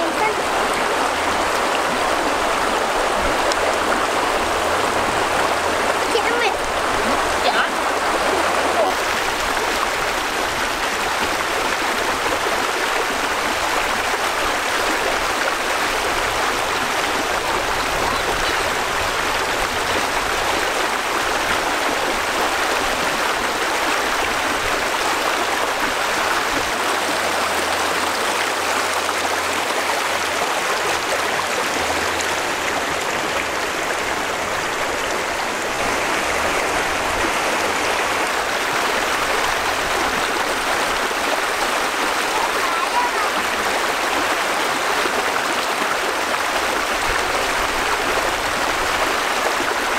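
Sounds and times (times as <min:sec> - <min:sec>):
river rushing over stones: 0:00.0 - 0:49.9.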